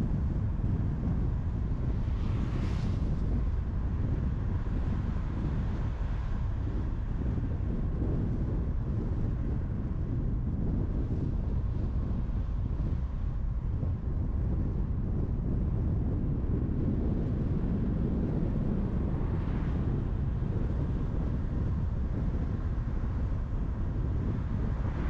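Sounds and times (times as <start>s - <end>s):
wind noise: 0.0s - 25.0s.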